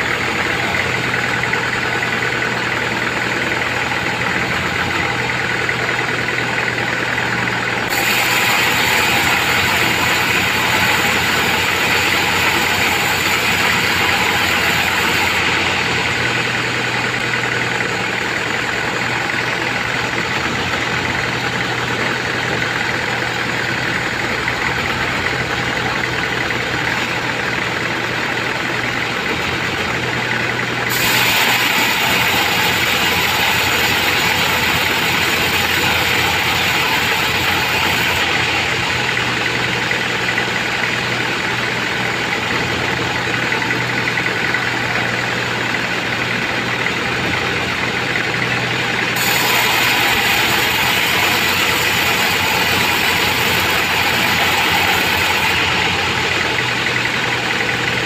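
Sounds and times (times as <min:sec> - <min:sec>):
band saw cutting timber: 0:00.0 - 0:58.0.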